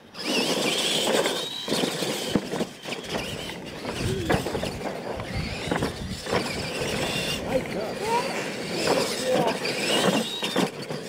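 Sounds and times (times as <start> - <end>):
electric motor and gear whine: 0.0 - 11.0
tyre noise on dirt: 0.2 - 11.0.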